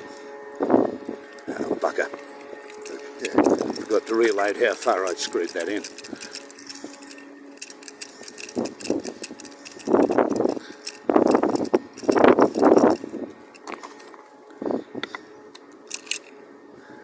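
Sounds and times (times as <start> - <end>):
metal scraping: 0.0 - 16.5
metal clamp clicks and rattles: 1.3 - 14.4, 15.0 - 16.3.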